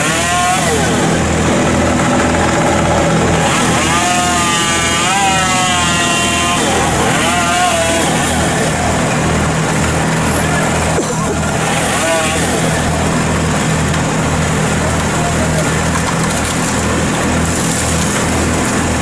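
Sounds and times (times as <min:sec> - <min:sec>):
chainsaw revving: 0:00.0 - 0:19.0
machinery throbbing: 0:00.0 - 0:19.0.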